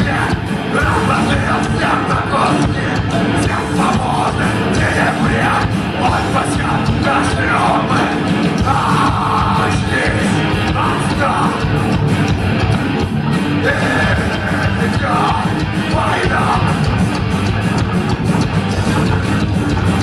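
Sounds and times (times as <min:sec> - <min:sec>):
distorted electric guitars: 0:00.0 - 0:20.0
drums: 0:00.0 - 0:20.0.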